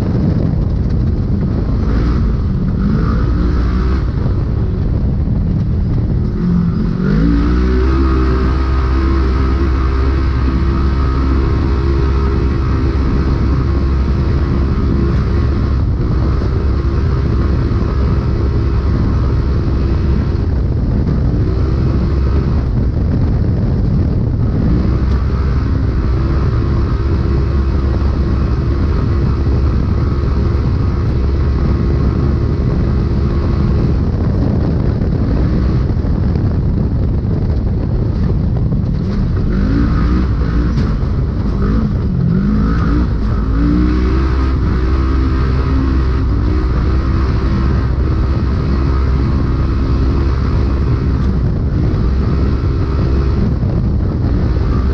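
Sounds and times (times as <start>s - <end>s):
vehicle engine running at speed: 0.0s - 54.9s.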